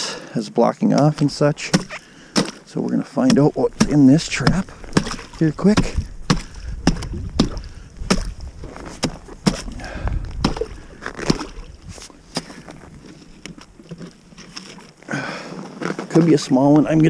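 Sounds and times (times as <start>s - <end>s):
water sloshing: 1.0s - 17.0s.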